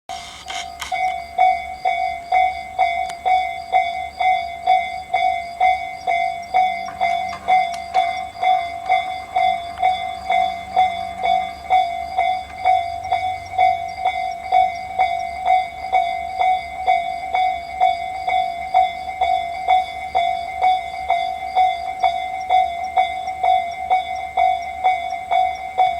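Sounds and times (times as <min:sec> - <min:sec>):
level crossing electronic bell: 0:00.1 - 0:25.9.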